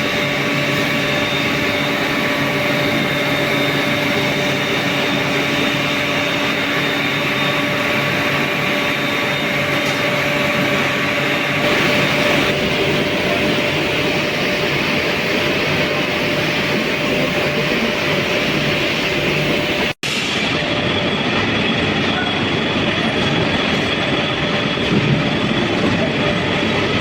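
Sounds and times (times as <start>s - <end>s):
industrial machinery roar: 0.0s - 27.0s.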